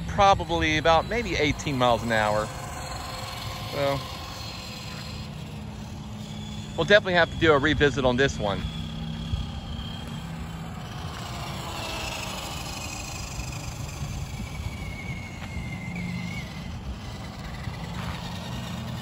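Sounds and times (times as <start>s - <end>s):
electric motor whine: 0.0s - 19.0s
tyre and outdoor noise: 0.0s - 19.0s.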